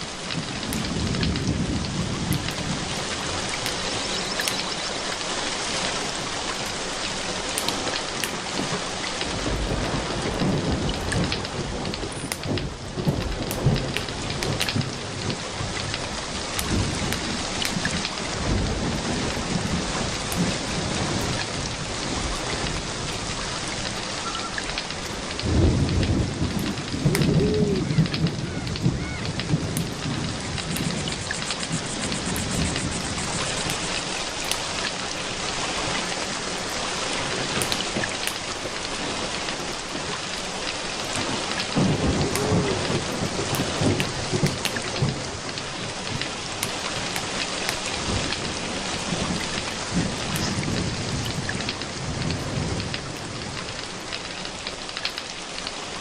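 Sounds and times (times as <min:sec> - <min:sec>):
thunder rolling: 0:00.0 - 0:05.2, 0:07.9 - 0:36.1, 0:41.1 - 0:54.0
steady rain: 0:00.0 - 0:56.0.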